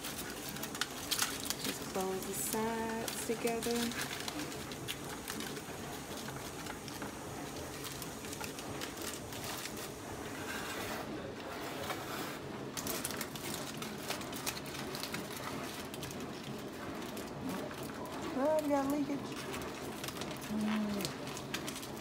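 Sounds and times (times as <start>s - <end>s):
aluminium foil crinkling: 0.0s - 22.0s.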